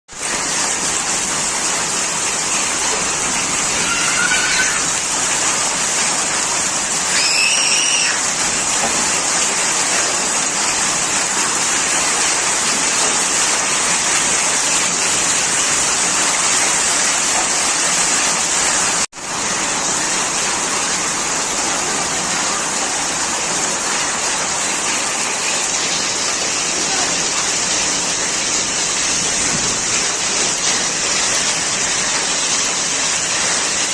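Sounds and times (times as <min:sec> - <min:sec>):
hail and rain pelting down: 0:00.1 - 0:33.9.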